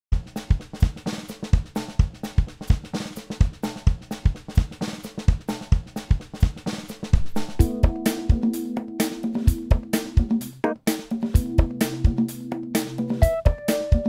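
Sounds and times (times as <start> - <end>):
drum kit playing groove: 0.1 - 14.0.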